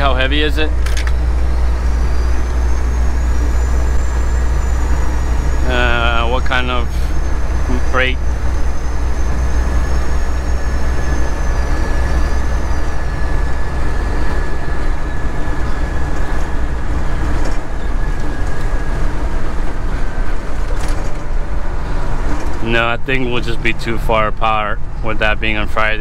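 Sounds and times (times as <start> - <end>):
truck engine and road rumble: 0.0 - 26.0.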